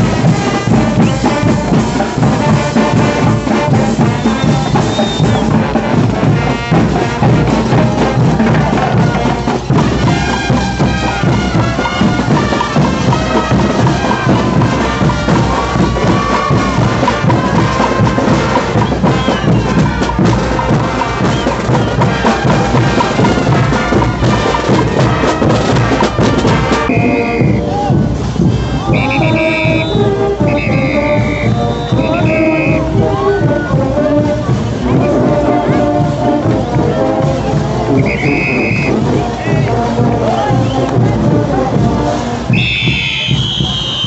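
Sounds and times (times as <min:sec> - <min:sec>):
brass band playing dance music: 0:00.0 - 0:44.0
driving drum beat: 0:00.0 - 0:44.0.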